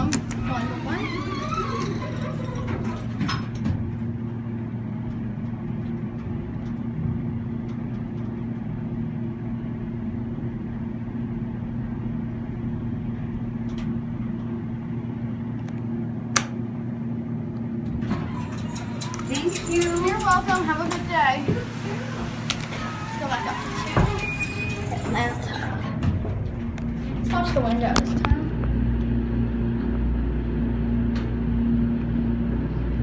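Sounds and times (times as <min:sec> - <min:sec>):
elevator running hum: 0:00.0 - 0:33.0.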